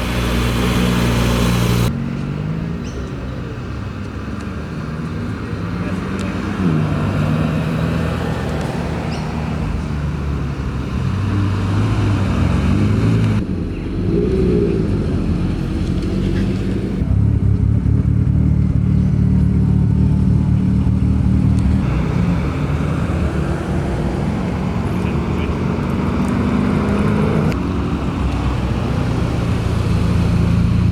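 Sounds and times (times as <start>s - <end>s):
car engines running at low speed: 0.0s - 30.9s.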